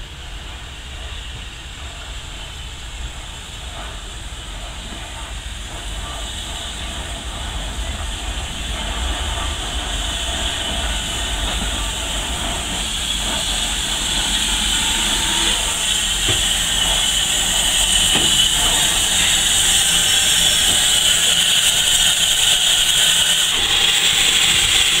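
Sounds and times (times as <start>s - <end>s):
train steam hiss: 0.0s - 25.0s.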